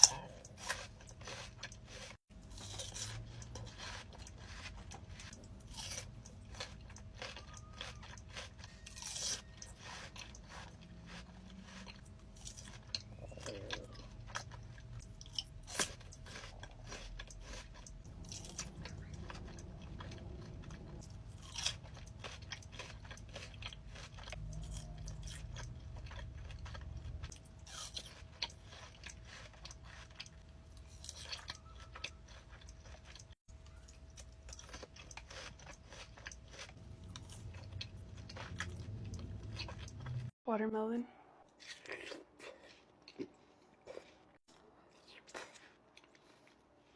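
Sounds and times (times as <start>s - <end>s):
crunchy bites: 0.0s - 40.3s
wet chewing: 0.0s - 40.4s, 41.5s - 46.9s.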